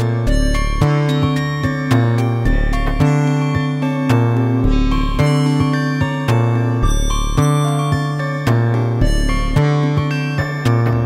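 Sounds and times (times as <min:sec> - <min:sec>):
synth bass line: 0:00.0 - 0:10.1.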